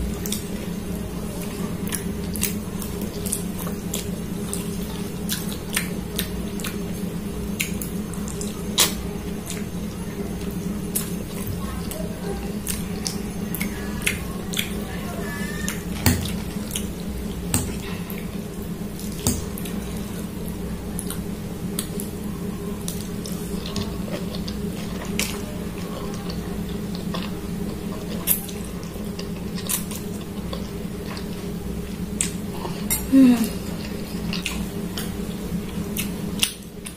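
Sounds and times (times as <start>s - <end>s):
steady low hum: 0.0s - 36.9s
chewing: 0.1s - 20.0s, 21.0s - 36.9s.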